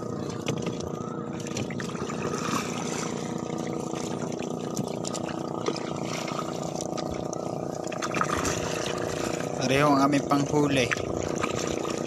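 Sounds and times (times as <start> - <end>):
boat engine running: 0.0 - 12.0
water splashing around hull: 0.0 - 12.0.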